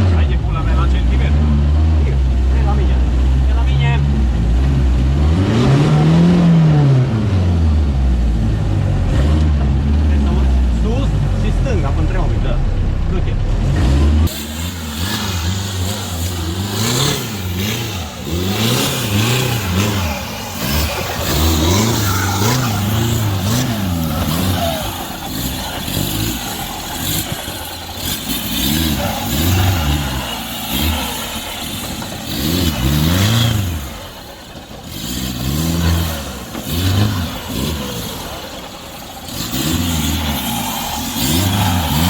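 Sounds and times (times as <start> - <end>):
vehicle engine revving: 0.0 - 42.0.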